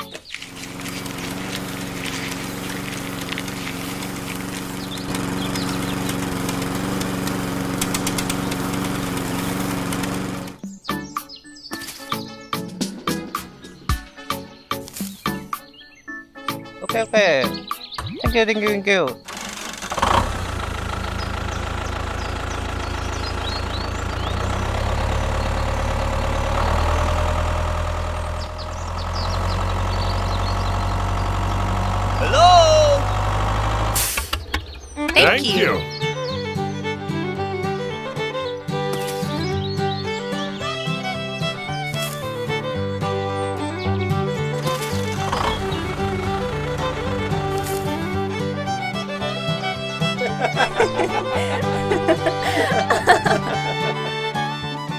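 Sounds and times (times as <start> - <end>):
small engine running: 0.0 - 10.7, 19.2 - 54.9.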